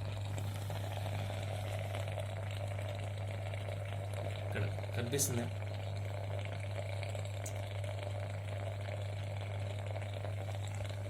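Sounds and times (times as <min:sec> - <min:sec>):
boiling water hissing: 0:00.0 - 0:11.0
vaporizer humming: 0:00.0 - 0:11.0.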